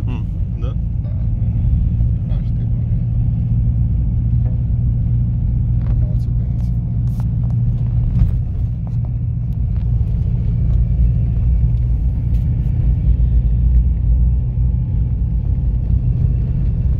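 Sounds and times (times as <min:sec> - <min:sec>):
vehicle driving on snowy road: 0:00.0 - 0:16.9.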